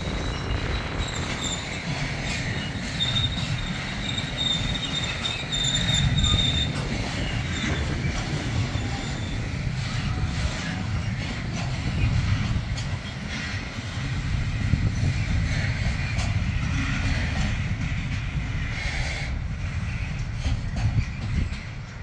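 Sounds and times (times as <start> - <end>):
freight train rumble: 0.0 - 22.0
train wheels clattering over joints: 0.0 - 22.0.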